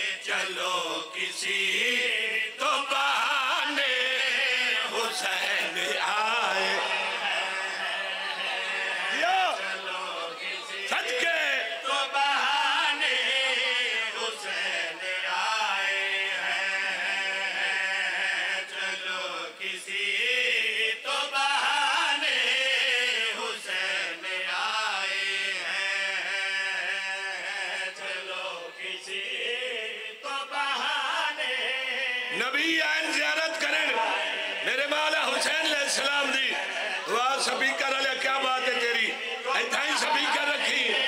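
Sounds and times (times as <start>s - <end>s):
men chanting in chorus: 0.0s - 41.0s.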